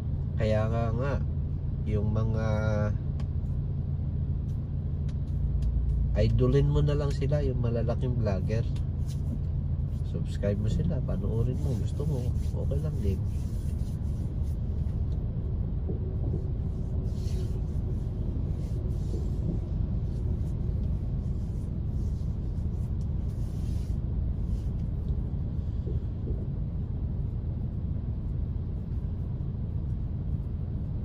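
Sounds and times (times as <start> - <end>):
car idling from inside cabin: 0.0 - 31.0.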